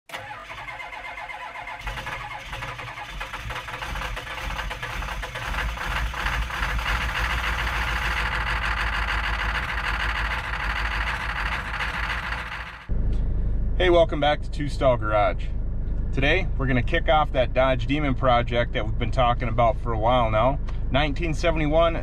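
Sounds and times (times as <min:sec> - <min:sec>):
car engine running: 0:00.1 - 0:22.0.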